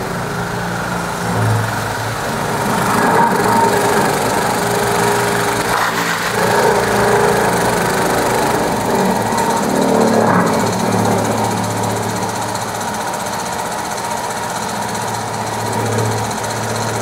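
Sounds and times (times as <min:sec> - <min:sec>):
machinery engine running: 0:00.0 - 0:17.0.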